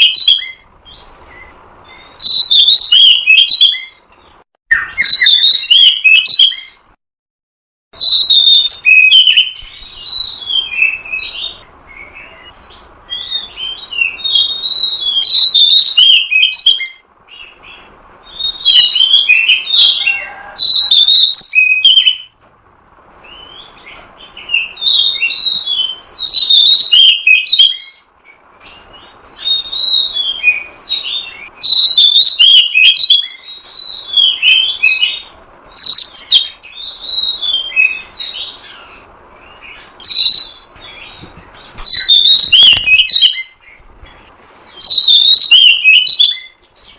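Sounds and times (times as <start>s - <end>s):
bird singing whistled phrases: 0.0s - 4.0s, 4.7s - 6.8s, 8.0s - 22.3s, 23.2s - 43.8s, 44.5s - 46.9s.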